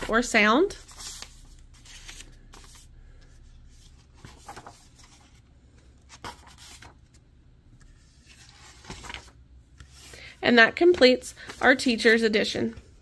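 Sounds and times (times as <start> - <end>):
paper pages rustling: 0.0 - 7.2, 7.8 - 10.2, 10.8 - 13.0.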